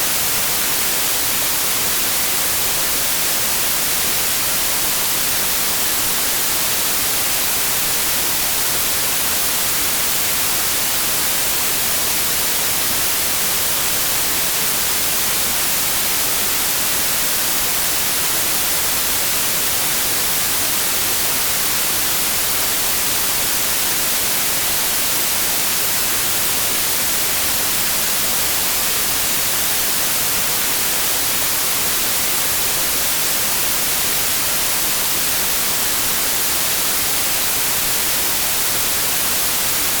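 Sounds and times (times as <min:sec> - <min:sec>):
white noise hiss: 0:00.0 - 0:40.0.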